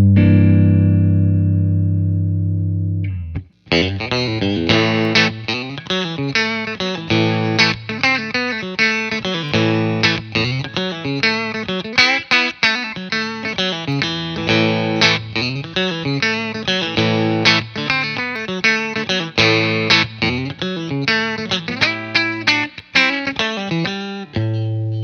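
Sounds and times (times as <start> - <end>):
clean electric guitar chords and notes: 0.0 - 25.0.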